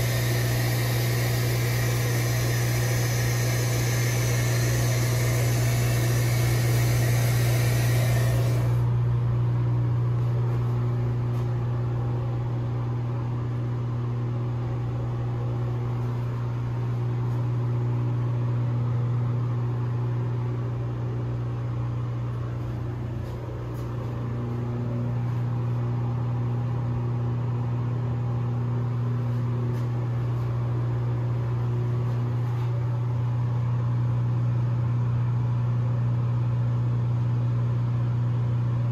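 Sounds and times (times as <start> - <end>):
exhaust fan humming: 0.0 - 38.9.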